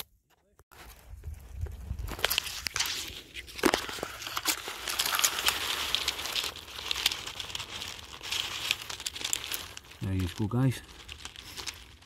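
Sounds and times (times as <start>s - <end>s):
dry vegetation rustling and crackling: 0.7s - 12.0s.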